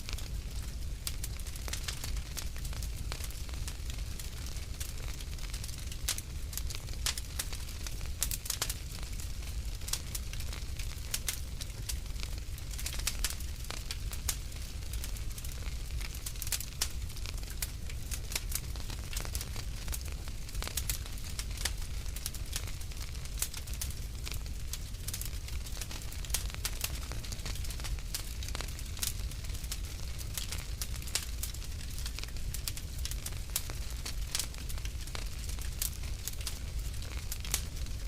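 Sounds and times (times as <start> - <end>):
low rumble of burning: 0.0 - 38.0
wood fire crackling: 0.0 - 38.0
sharp snaps and pops: 0.1 - 38.0.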